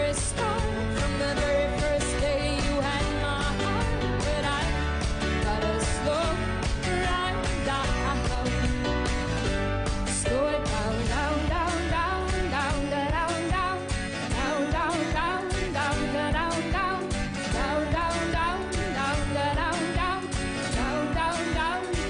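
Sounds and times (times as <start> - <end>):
pop-rock song with band: 0.0 - 22.0.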